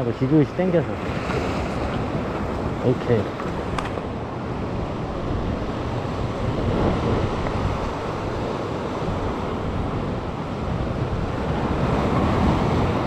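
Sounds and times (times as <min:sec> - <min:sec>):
ocean surf washing against rock: 0:00.0 - 0:13.0
wind buffeting microphone: 0:00.0 - 0:13.0.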